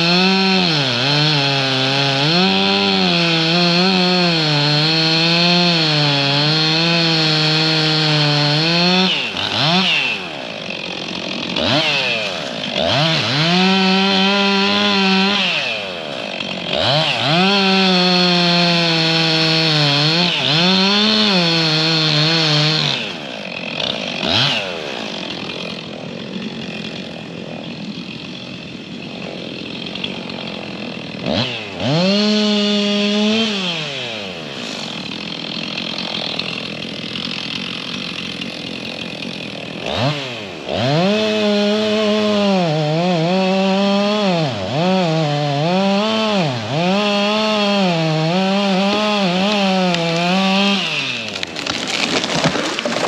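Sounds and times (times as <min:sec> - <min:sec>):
chainsaw revving and cutting: 0:00.0 - 0:53.0.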